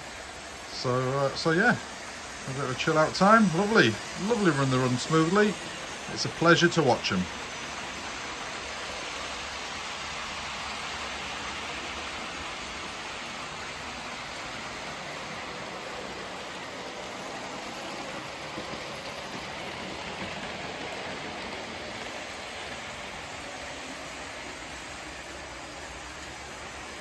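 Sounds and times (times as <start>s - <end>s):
model trains whirring on track: 0.0s - 27.0s.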